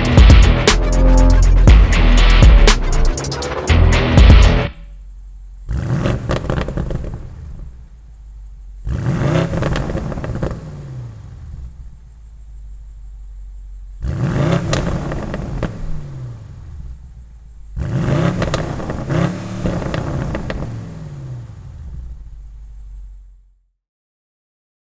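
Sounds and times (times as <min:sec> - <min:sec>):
car engine idling and revving: 0:00.0 - 0:23.6.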